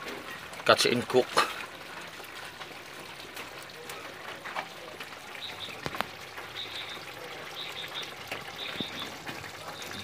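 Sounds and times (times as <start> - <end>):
sauce simmering and bubbling: 0.0 - 10.0.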